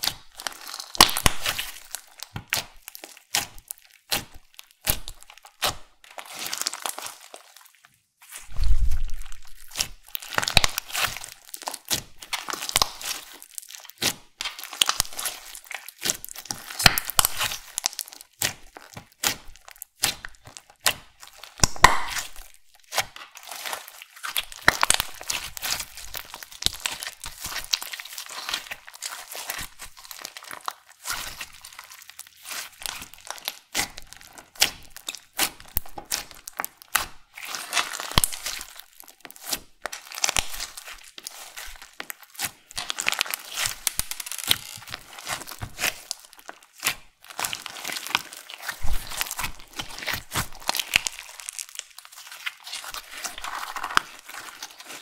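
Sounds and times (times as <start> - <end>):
slime squishing crackles and pops: 0.0 - 55.0.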